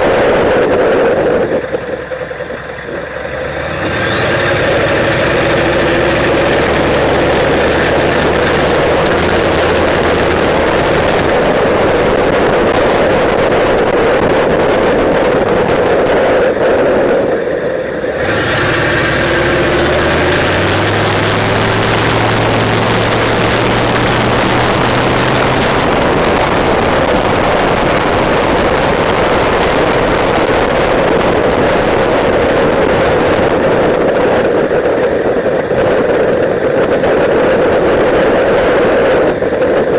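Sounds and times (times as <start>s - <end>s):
diesel engine running loud: 0.0s - 39.9s.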